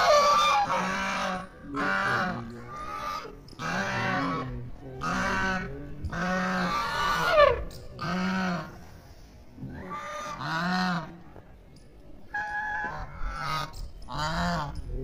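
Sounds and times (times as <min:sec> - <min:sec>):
geese honking: 0:00.0 - 0:08.8, 0:09.7 - 0:11.2, 0:12.3 - 0:14.8.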